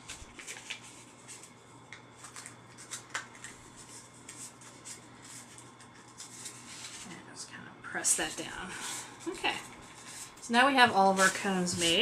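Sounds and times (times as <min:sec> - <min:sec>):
thin paper rustling: 0:00.0 - 0:07.2, 0:08.2 - 0:12.0.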